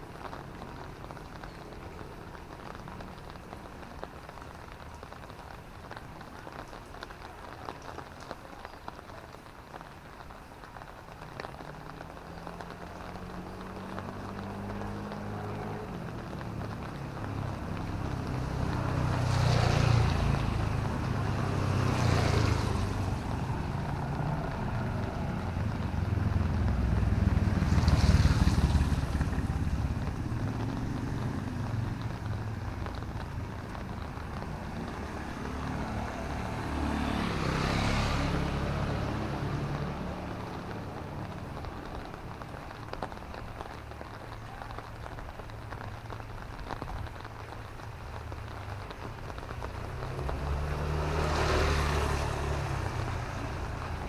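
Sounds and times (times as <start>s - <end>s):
engine rumble: 0.0s - 54.0s
vehicles passing on wet road: 0.0s - 54.0s.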